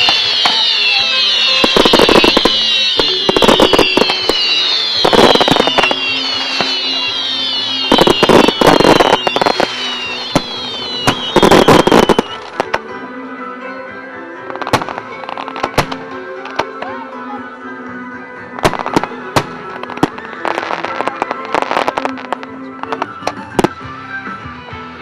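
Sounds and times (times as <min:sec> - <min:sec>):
whistling fireworks: 0:00.0 - 0:13.0, 0:14.5 - 0:16.9, 0:17.6 - 0:24.3
firework bangs and crackling: 0:00.0 - 0:13.1, 0:14.4 - 0:17.0, 0:18.4 - 0:24.2
music playing: 0:00.0 - 0:25.0.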